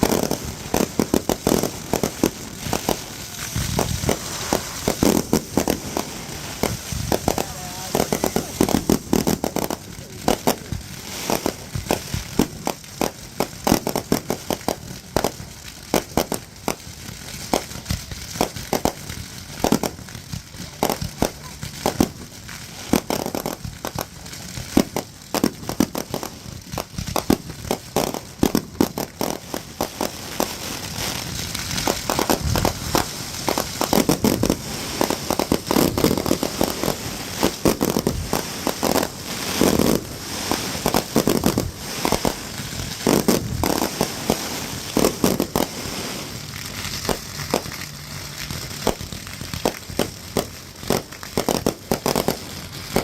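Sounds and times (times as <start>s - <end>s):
fireworks bangs: 0.0s - 53.0s
fireworks crackling pops: 0.0s - 53.0s.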